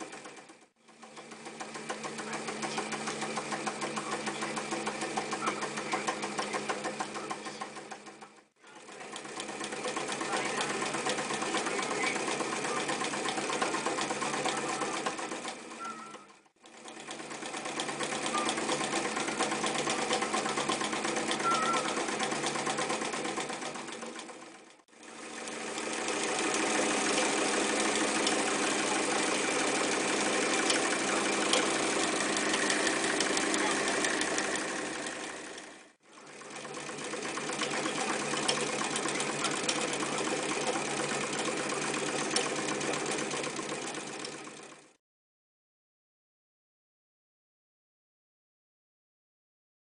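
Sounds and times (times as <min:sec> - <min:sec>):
electric sewing machine stitching: 0:00.0 - 0:45.0.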